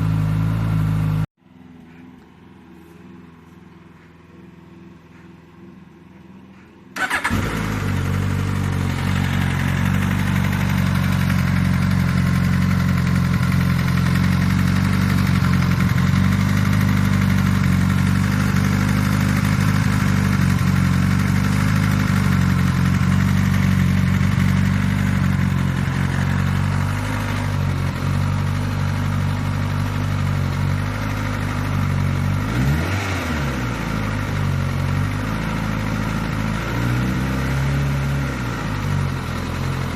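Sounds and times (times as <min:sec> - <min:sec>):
motorcycle engine starting and idling: 0:00.0 - 0:02.3, 0:02.9 - 0:39.9.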